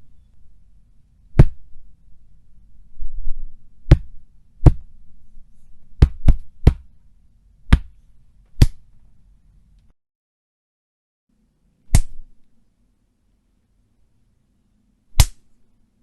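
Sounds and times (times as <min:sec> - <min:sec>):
faint low hum: 0:00.0 - 0:09.9, 0:11.3 - 0:16.0.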